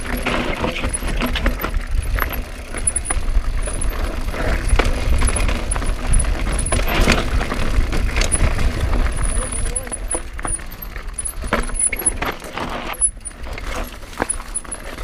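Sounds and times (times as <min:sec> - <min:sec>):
bike chain and frame rattling: 0:00.0 - 0:15.0
tyres crunching over gravel: 0:00.0 - 0:15.0.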